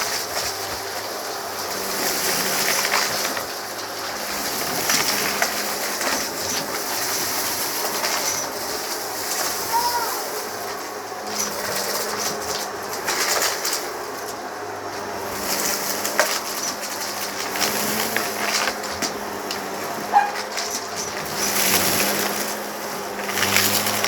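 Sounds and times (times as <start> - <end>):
crackles and rattles on rug: 0.0 - 24.0
vacuum cleaner motor: 0.0 - 24.0.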